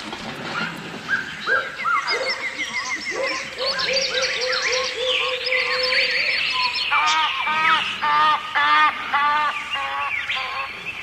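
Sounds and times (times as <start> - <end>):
birds singing and calling: 0.2 - 11.0.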